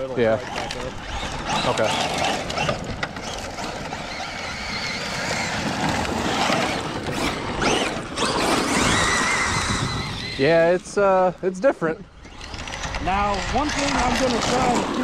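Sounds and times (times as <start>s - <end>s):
electric motor whining: 0.0s - 15.0s
tires throwing dirt: 0.0s - 15.0s.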